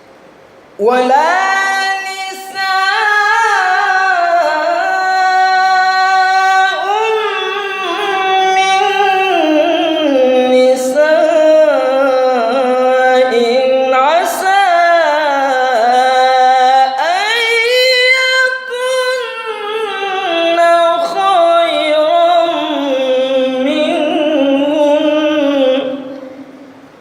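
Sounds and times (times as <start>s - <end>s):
man reciting melodically: 0.8s - 26.9s.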